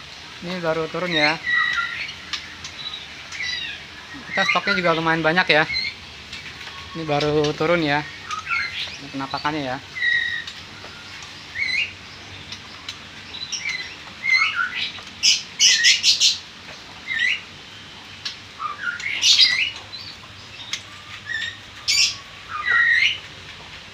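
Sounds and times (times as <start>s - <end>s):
caged birds chirping: 0.0s - 23.9s.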